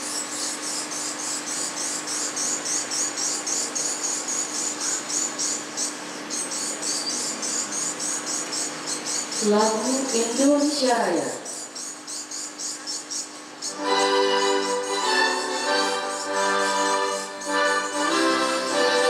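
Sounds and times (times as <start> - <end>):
faint steady hum: 0.0 - 19.0
insect chirping: 0.0 - 19.0.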